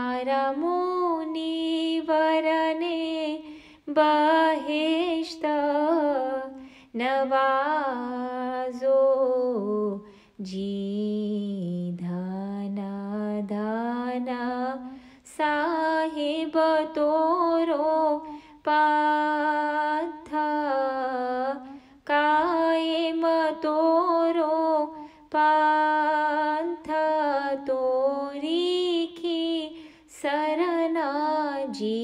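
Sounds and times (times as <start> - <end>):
woman singing a hymn: 0.0 - 32.0.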